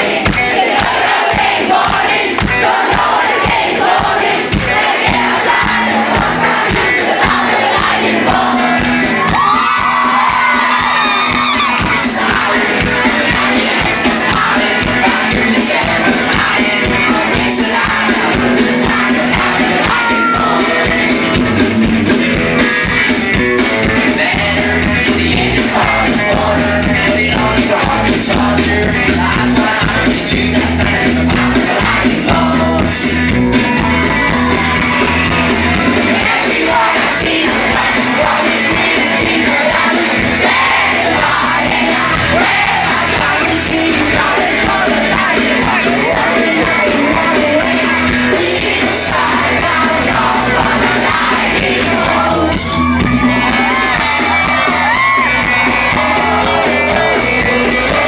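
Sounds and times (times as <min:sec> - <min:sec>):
lead singer singing: 0:00.0 - 0:58.0
live rock band playing: 0:00.0 - 0:58.0.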